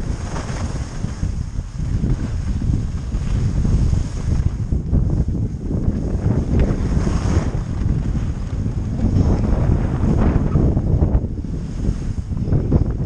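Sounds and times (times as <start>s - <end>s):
skis sliding over snow: 0.0s - 12.7s
wind rushing over microphone: 0.0s - 13.0s.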